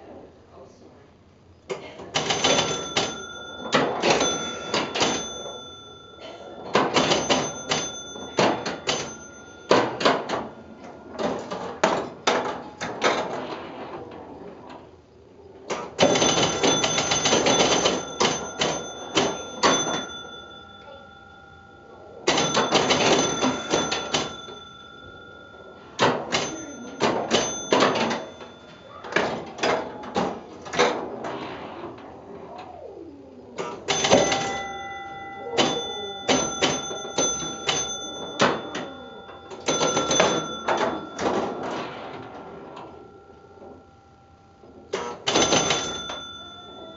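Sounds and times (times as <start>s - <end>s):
pinball machine clattering: 1.7s - 15.0s, 15.6s - 33.0s, 33.6s - 46.9s
pinball scoring bells ringing: 2.1s - 15.0s, 15.7s - 33.0s, 33.6s - 46.9s.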